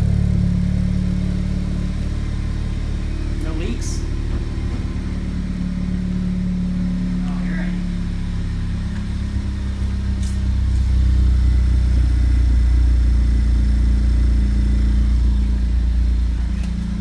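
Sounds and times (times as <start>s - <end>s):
car exhaust low drone: 0.0s - 17.0s.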